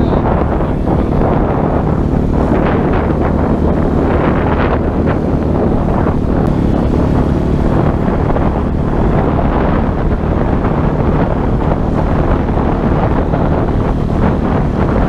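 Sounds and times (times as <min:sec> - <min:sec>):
outboard motor running: 0:00.0 - 0:15.0
wind noise on microphone: 0:00.0 - 0:15.0.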